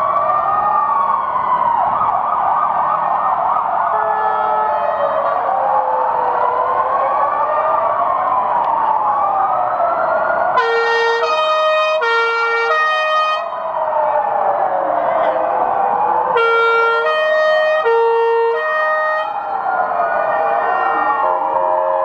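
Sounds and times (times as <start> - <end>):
ambulance sirens wailing: 0.0 - 22.0
two-tone siren: 0.0 - 22.0.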